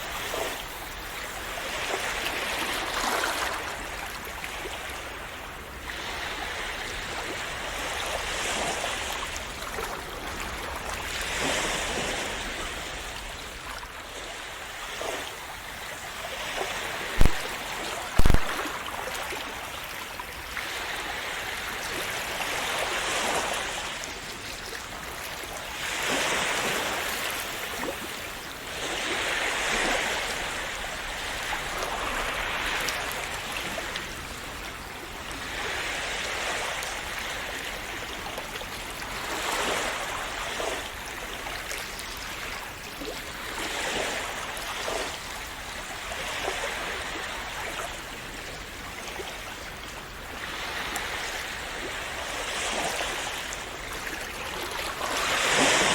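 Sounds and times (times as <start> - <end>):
sea waves washing in: 0.0 - 55.9.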